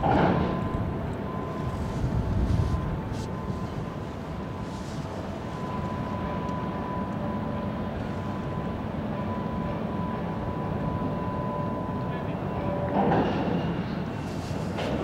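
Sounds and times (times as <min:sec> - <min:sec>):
ship engines low rumble: 0:00.0 - 0:15.0
thin steady whine: 0:00.0 - 0:15.0.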